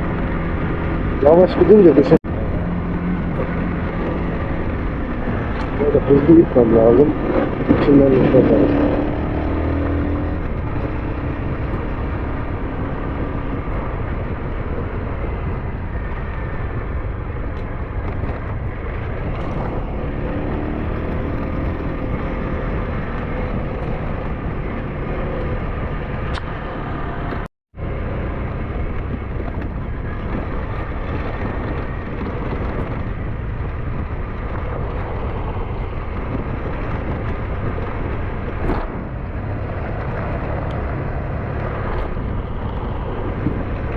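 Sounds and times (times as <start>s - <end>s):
motorcycle riding: 0.0s - 43.9s.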